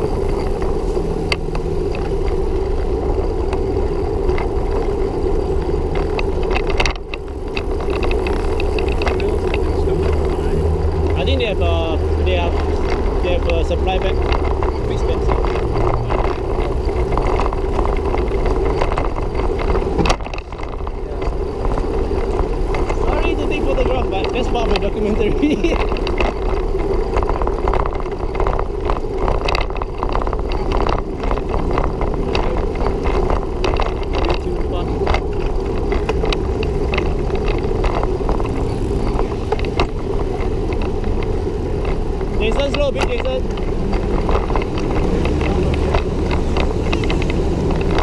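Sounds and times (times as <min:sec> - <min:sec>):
bike rattles and clicks: 0:00.0 - 0:48.0
tyres on concrete path: 0:00.0 - 0:48.0
wind rumble: 0:00.0 - 0:48.0.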